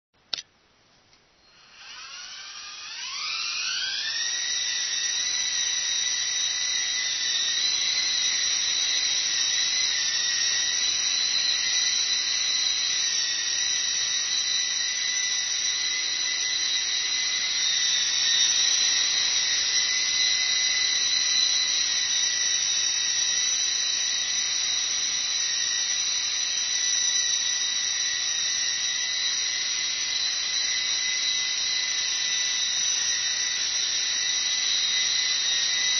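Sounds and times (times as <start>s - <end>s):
toy helicopter rotors whining: 1.5s - 35.9s.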